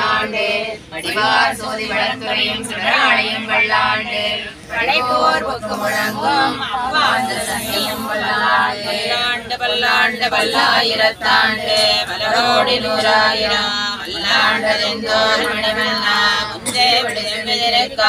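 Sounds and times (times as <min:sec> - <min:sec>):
women chanting in unison: 0:00.0 - 0:18.0.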